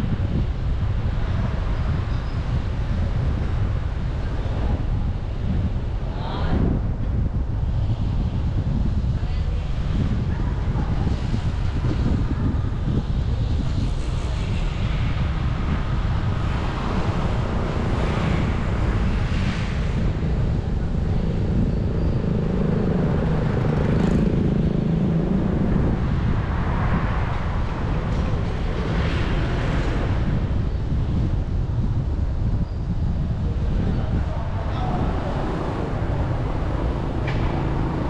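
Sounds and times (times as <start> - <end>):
motorbike engine and tyres droning: 0.0 - 38.0
wind rushing over microphone: 0.0 - 38.0.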